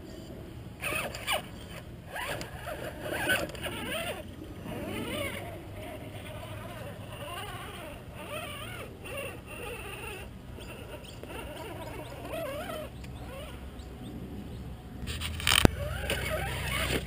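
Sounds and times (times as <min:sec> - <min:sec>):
electric motor and gears whining: 0:00.0 - 0:17.0.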